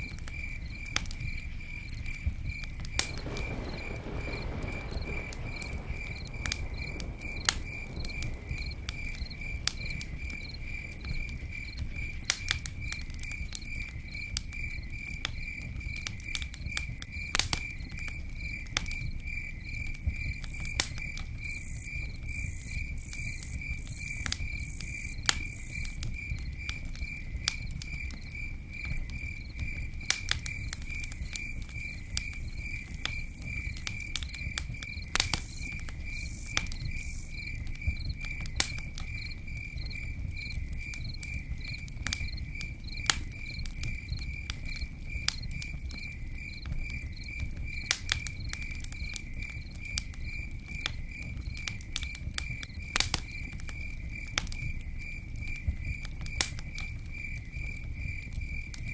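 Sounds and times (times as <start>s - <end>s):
campfire crackling and popping: 0.0s - 58.9s
cricket chirping: 0.0s - 58.9s.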